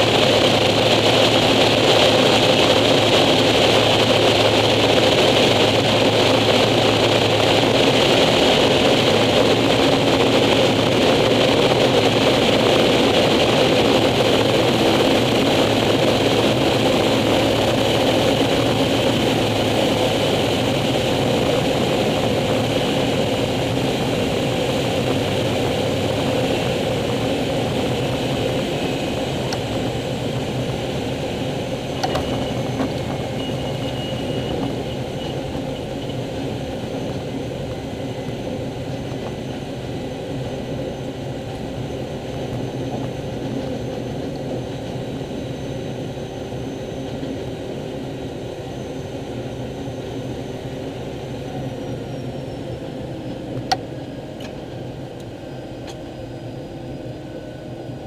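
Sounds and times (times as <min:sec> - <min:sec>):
wind rush: 0:00.0 - 0:52.1
turboprop engine whine: 0:00.0 - 0:58.0.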